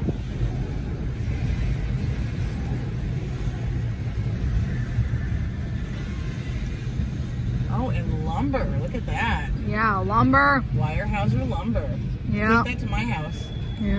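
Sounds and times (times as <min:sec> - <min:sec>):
freight cars rumbling on rails: 0:00.0 - 0:13.9.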